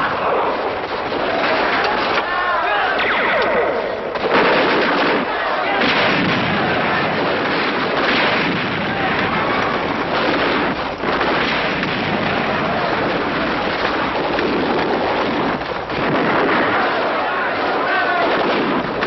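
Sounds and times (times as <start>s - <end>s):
explosions: 0.0s - 19.0s
rapid gunfire: 2.9s - 19.0s.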